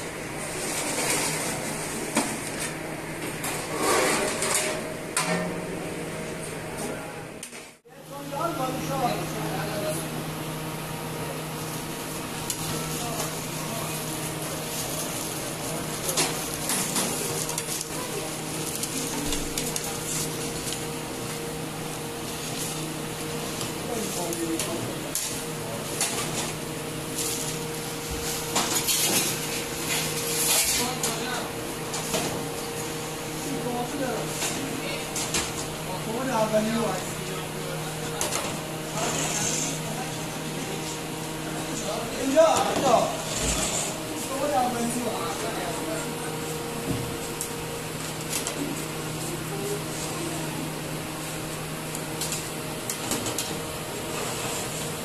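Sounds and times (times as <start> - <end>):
kitchen noise: 0.2 - 6.9, 11.4 - 51.1.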